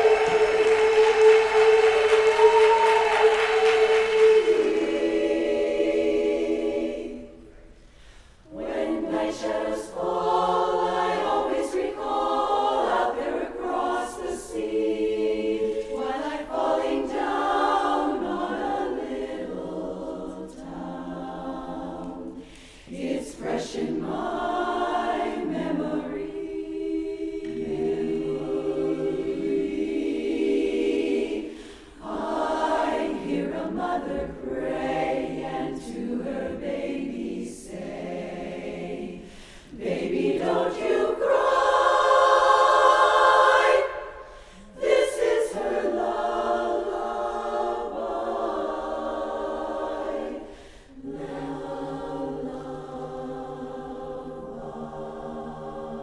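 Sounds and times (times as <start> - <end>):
a cappella chorus singing: 0.0 - 56.0.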